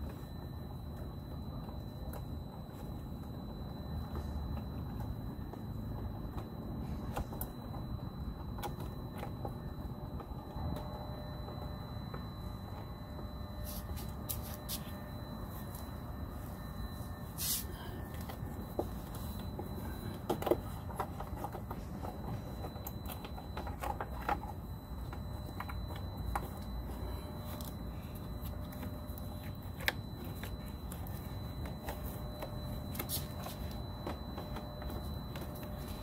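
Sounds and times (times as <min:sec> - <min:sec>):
faint high tone: 0:00.0 - 0:36.0.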